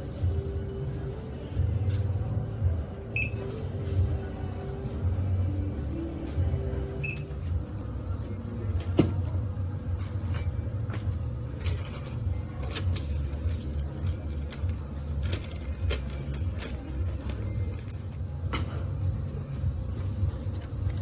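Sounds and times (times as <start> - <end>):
items handled at checkout: 0.0 - 21.0
low shop rumble: 0.0 - 21.0.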